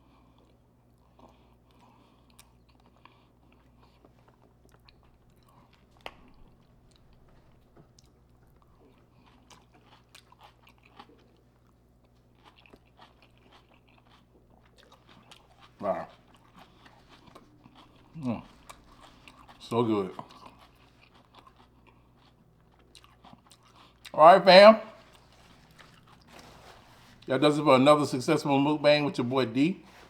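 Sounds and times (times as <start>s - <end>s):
person chewing food: 0.0s - 27.8s.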